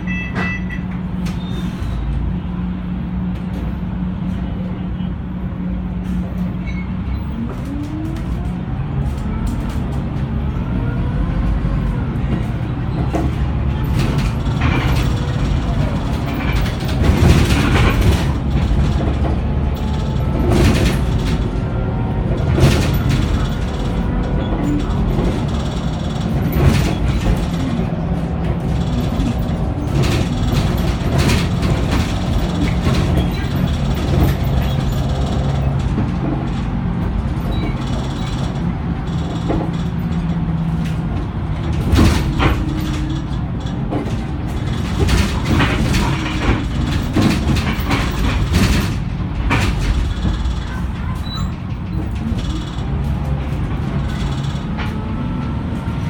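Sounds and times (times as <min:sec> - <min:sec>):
bus body rattling: 0:00.0 - 0:56.0
bus engine running: 0:00.0 - 0:56.0.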